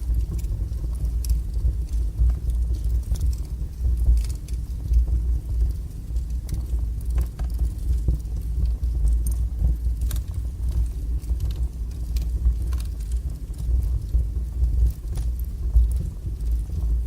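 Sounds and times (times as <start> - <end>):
fire crackling and popping: 0.0 - 17.0
flames rumbling: 0.0 - 17.0.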